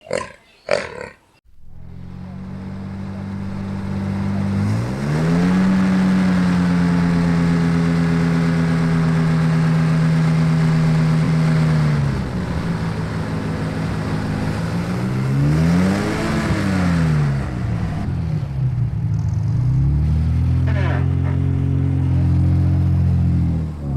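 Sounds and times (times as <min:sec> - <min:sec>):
engine revving: 0:01.4 - 0:23.9.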